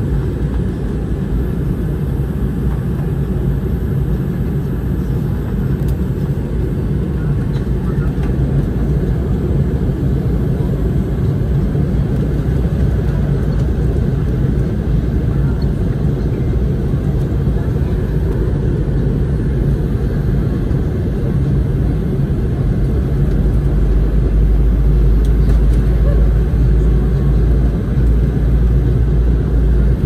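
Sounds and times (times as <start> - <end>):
airliner engine and airflow rumble: 0.0 - 30.0.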